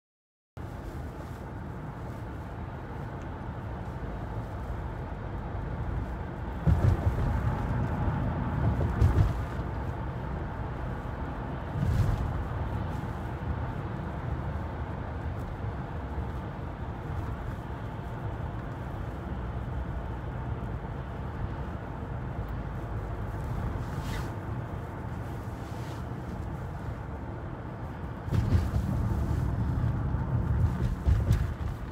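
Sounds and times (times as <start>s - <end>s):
tyres rumbling on concrete road: 0.6s - 31.9s.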